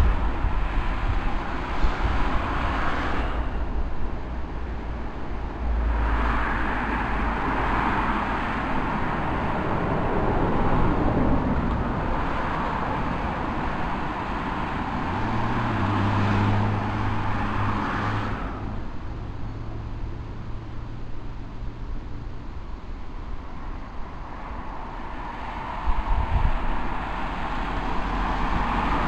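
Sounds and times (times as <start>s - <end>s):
car tyre noise on road: 0.0s - 29.0s
low car engine hum: 0.0s - 29.0s.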